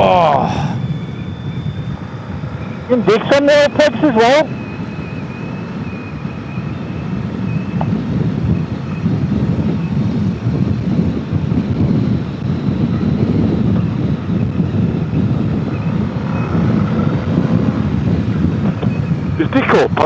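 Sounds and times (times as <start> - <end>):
motorcycle engine: 0.0 - 19.7
wind and road noise: 0.0 - 20.0.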